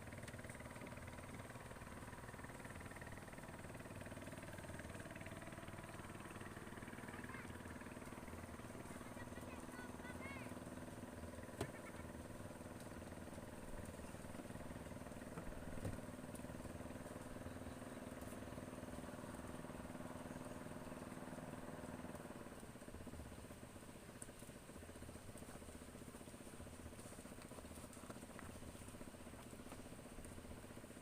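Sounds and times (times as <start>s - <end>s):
faint engine drone: 0.0s - 31.0s.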